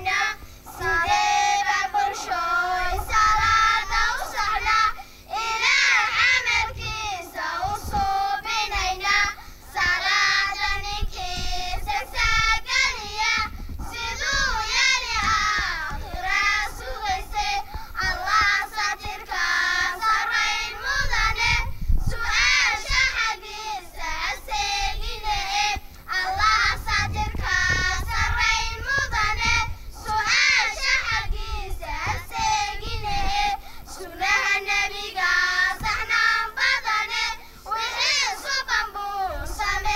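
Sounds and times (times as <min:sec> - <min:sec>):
girls singing in unison: 0:00.0 - 0:39.9.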